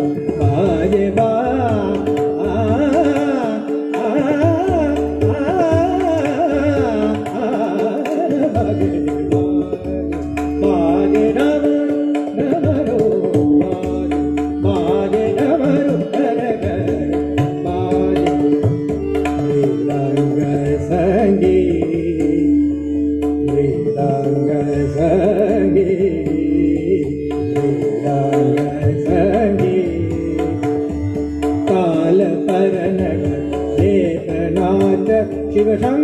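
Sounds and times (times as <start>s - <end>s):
harmonium drone: 0.0s - 36.0s
man singing devotional song: 0.0s - 36.0s
tabla: 0.0s - 36.0s.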